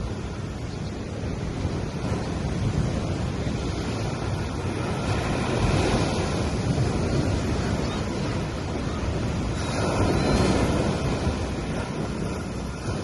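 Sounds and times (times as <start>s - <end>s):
sea waves washing onto beach: 0.0s - 13.0s.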